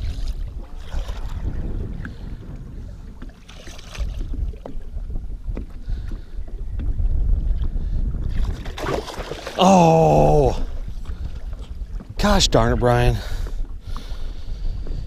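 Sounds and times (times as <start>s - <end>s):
water lapping against boat: 0.0s - 15.0s
wind rumbling on microphone: 0.0s - 15.0s.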